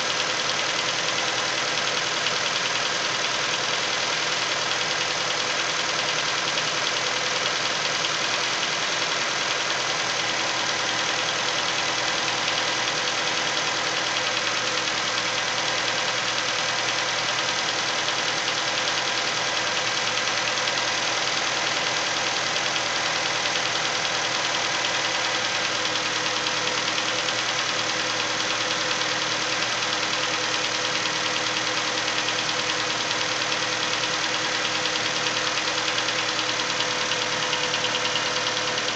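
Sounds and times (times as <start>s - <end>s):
car engine running: 0.0s - 38.9s
rapid even engine tapping: 0.1s - 38.9s.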